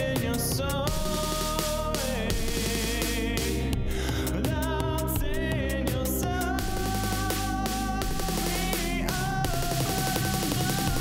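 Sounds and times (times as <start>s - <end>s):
instrumental electronic pop music: 0.0s - 11.0s.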